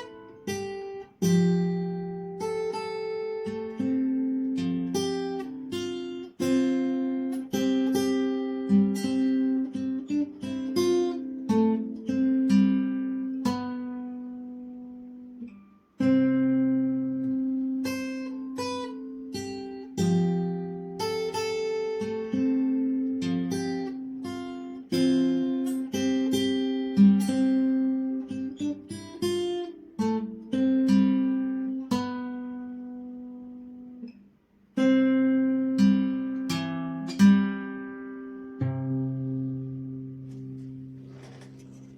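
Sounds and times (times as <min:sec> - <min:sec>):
fingerstyle acoustic guitar: 0:00.0 - 0:41.9.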